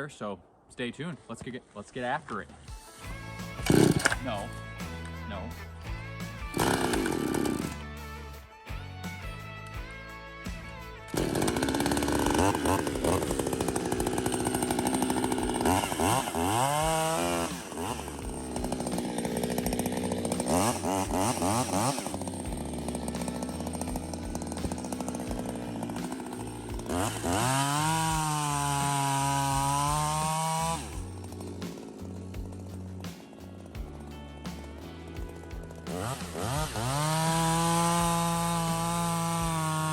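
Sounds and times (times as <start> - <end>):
chainsaw cutting wood: 2.6 - 39.9.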